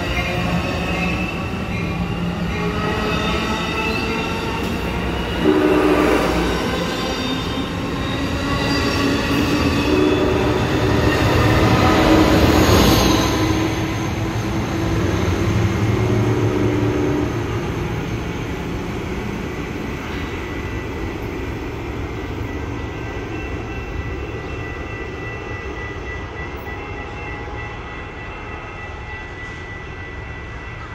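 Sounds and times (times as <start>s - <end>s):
passenger train rolling past: 0.0s - 30.9s.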